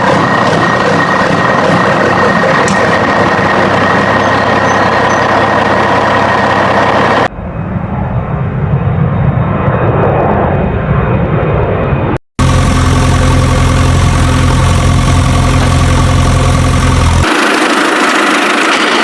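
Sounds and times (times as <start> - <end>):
diesel engine running: 0.0 - 9.0, 12.4 - 19.0.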